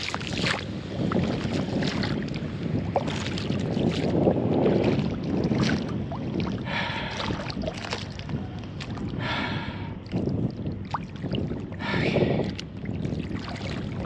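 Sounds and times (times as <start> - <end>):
water slapping against dinghy hull: 0.0 - 14.0
wind on microphone: 0.0 - 14.0.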